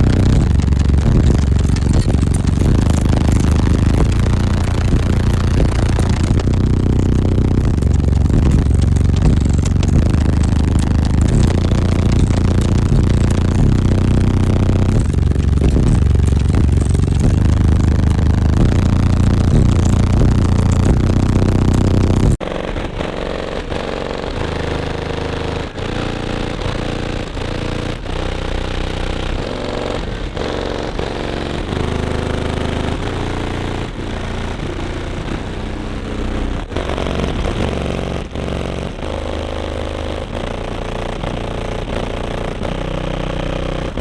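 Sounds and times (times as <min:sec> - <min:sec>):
loud bass-heavy music: 0:00.0 - 0:44.0.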